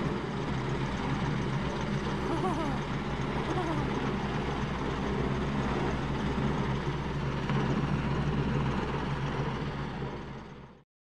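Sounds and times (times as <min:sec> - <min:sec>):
helicopter hovering overhead: 0:00.0 - 0:10.8.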